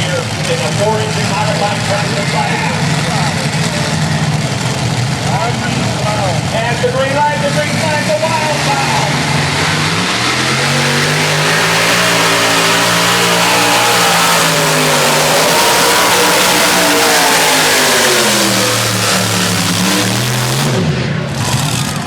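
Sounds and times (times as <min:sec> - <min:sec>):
tractor engine running flat out: 0:00.0 - 0:22.0.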